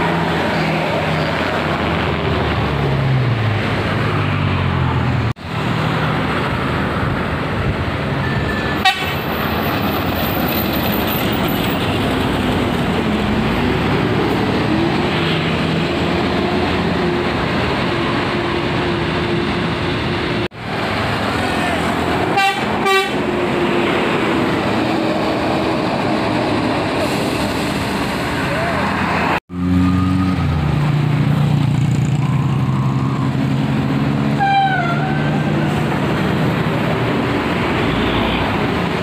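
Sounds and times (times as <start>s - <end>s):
heavy diesel engines climbing: 0.0s - 39.0s.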